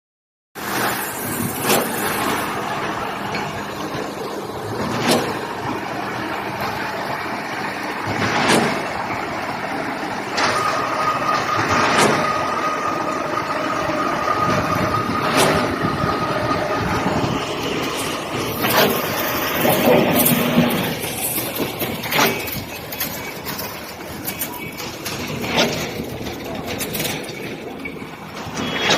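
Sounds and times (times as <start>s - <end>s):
concrete pump running: 0.6s - 28.9s.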